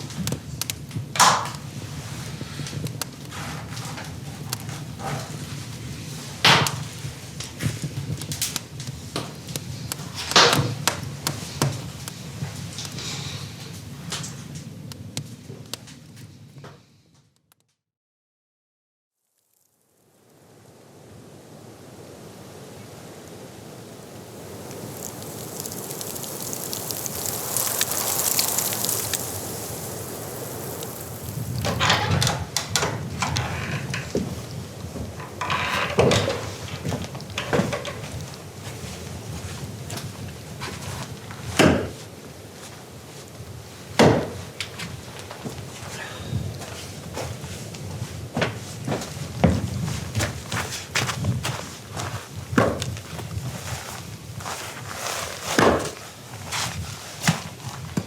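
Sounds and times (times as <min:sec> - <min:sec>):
storm wind and driven snow: 0:00.0 - 0:16.4, 0:20.0 - 0:58.0.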